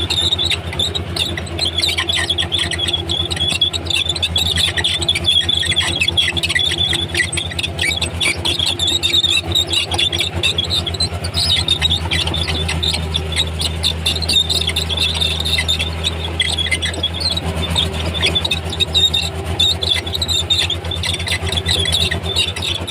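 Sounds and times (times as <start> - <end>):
bulldozer diesel engine hum: 0.0 - 22.9
steel tracks squealing: 0.0 - 22.9.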